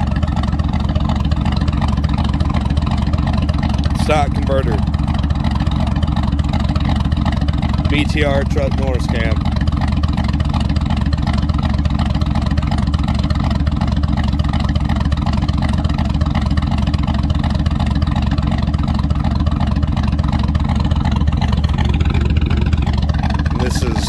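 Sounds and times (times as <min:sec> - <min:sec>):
lopey truck engine idling: 0:00.0 - 0:24.0.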